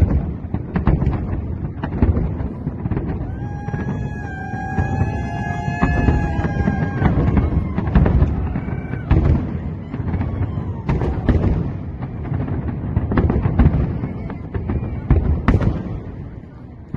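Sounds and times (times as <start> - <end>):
fireworks whistling: 0.0 - 16.0
fireworks booms and cracks: 0.0 - 16.9.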